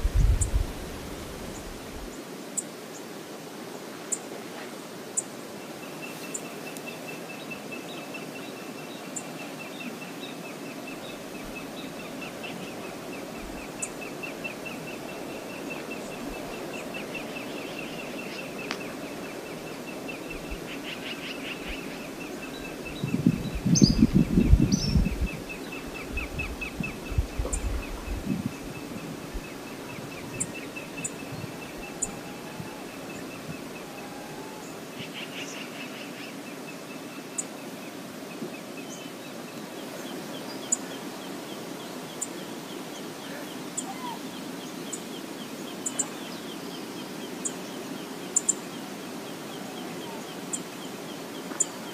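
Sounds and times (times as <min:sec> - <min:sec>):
river water running: 0:00.0 - 0:51.9.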